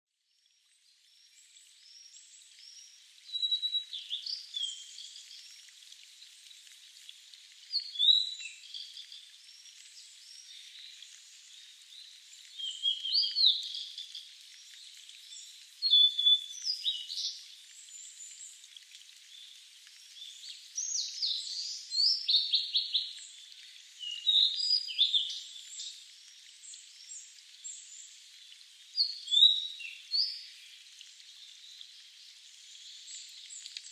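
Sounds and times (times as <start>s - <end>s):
faint steady hiss: 0.3s - 33.9s.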